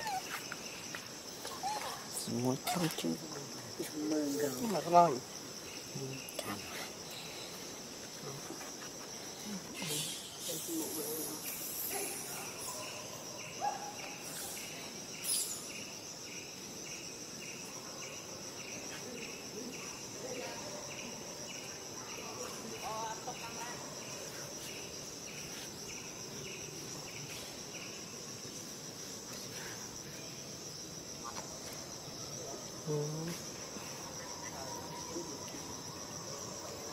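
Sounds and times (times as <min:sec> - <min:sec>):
insect chirp: 0:00.0 - 0:36.9
insects buzzing: 0:00.0 - 0:36.9.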